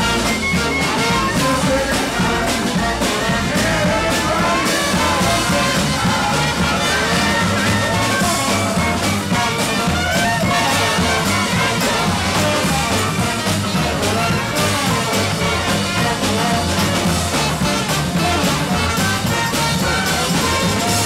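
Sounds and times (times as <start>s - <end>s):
banjo: 0.0s - 21.0s
bass line: 0.0s - 21.0s
drum beat: 0.0s - 21.0s
parade band playing: 0.0s - 21.0s
reed instrument: 0.0s - 21.0s.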